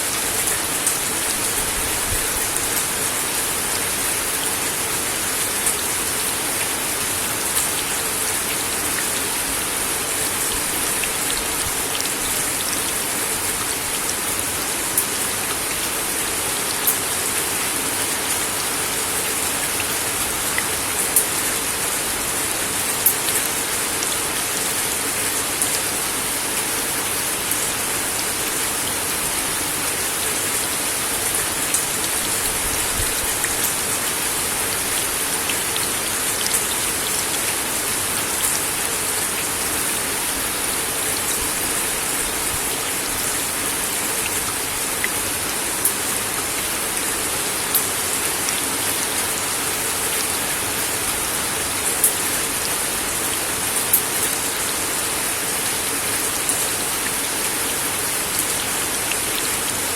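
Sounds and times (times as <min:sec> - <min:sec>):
rain falling on wooden deck: 0:00.0 - 0:59.9.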